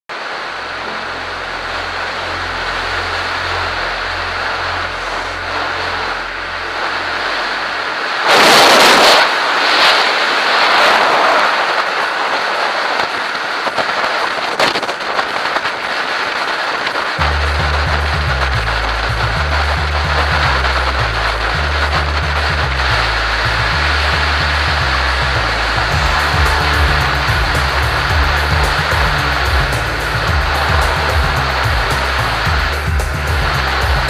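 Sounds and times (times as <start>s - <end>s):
wind and road rush: 0.1s - 34.0s.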